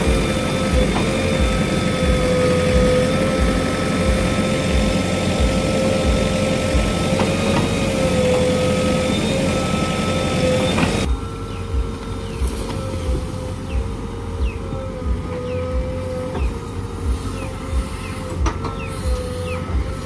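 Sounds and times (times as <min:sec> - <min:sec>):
diesel engine rumble: 0:00.0 - 0:20.0
high whine: 0:00.0 - 0:20.0.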